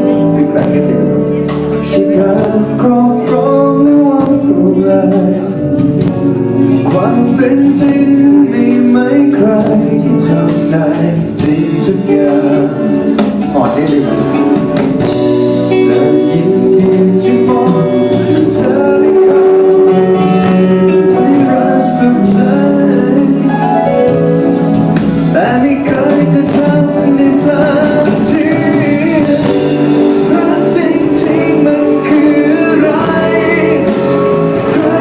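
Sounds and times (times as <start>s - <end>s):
pop ballad with band: 0.0s - 35.0s.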